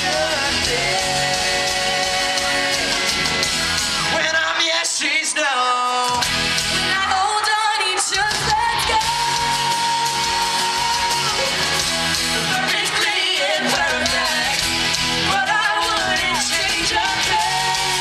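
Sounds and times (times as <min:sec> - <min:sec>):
lead vocal singing: 0:00.0 - 0:06.3, 0:06.9 - 0:18.0
live pop-rock band: 0:00.0 - 0:18.0.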